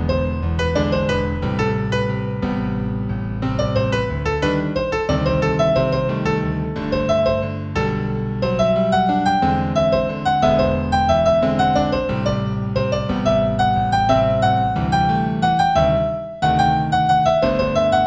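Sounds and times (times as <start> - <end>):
solo piano melody: 0.0 - 18.0.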